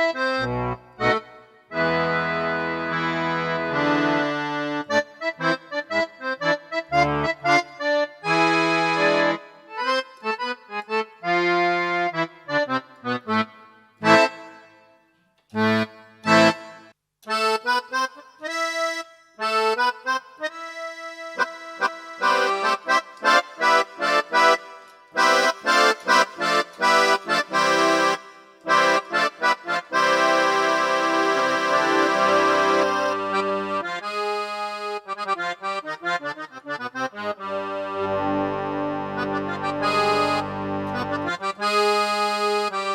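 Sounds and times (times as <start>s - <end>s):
electronic keyboard accordion tone: 0.0s - 42.9s.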